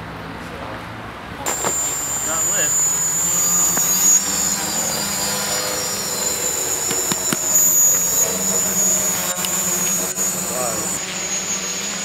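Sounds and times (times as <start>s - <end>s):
drone motors whining: 1.5s - 12.0s.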